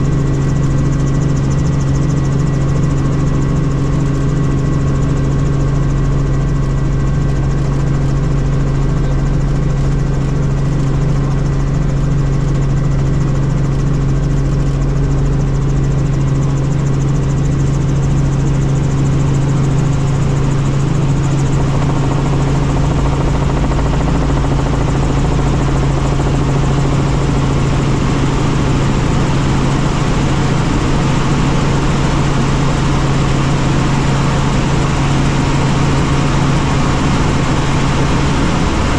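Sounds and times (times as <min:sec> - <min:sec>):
helicopter engine and rotors droning: 0:00.0 - 0:38.9.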